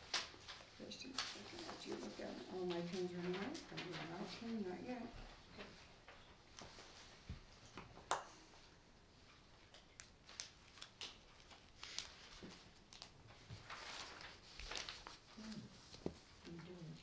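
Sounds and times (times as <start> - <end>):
paper rustling: 0.0 - 8.0, 9.3 - 17.0.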